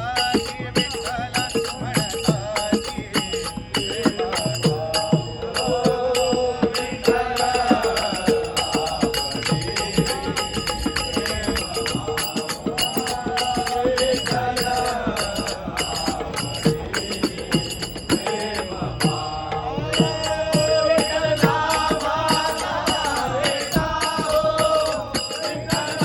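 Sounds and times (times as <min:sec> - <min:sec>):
fast hand-drum strokes: 0:00.0 - 0:26.0
ringing hand cymbals: 0:00.0 - 0:26.0
voices singing devotional music: 0:00.0 - 0:26.0.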